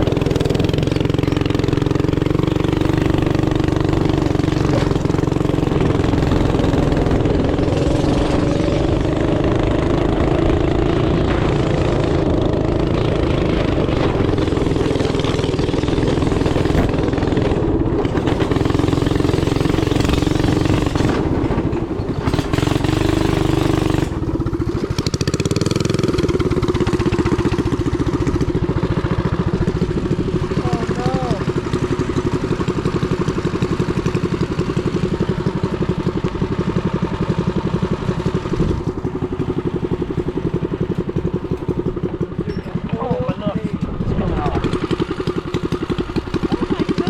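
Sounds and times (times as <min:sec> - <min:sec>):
small gas engine revving: 0:00.0 - 0:47.0.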